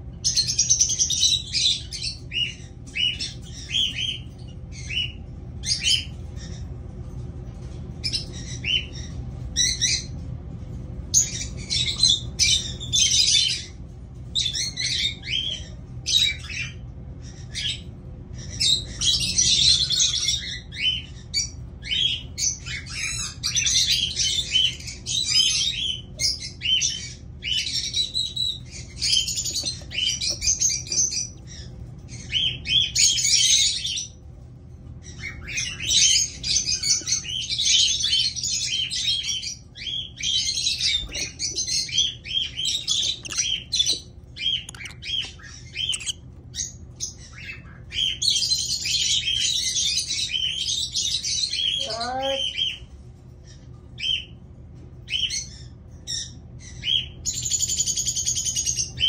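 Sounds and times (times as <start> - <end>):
lovebirds calling: 0.0 - 10.4, 11.1 - 34.4, 35.0 - 59.0.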